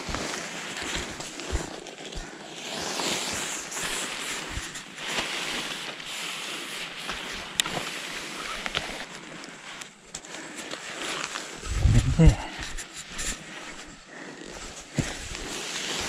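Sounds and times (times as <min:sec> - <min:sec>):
tent fabric rustling: 0:00.0 - 0:16.0.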